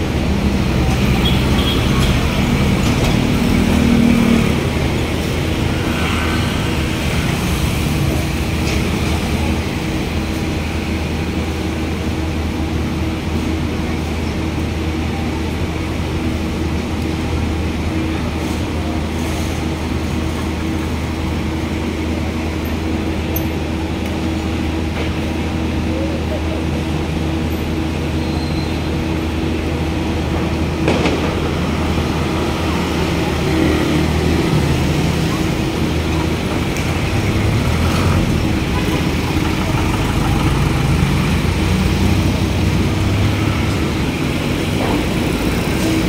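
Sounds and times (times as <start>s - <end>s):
low hum of road traffic: 0.0s - 46.0s
truck engine running close by: 0.0s - 46.0s.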